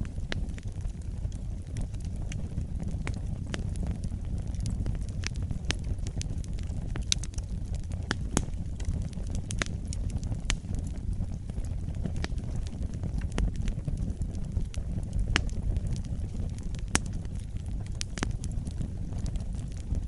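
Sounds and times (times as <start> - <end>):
burning logs crackling and popping: 0.0 - 20.0
low rumble of flames: 0.0 - 20.0.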